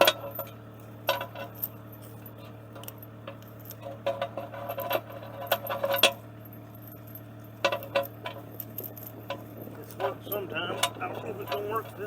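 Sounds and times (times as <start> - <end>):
chain links clinking on metal rod: 0.0 - 12.0
steady low hum: 0.0 - 12.0.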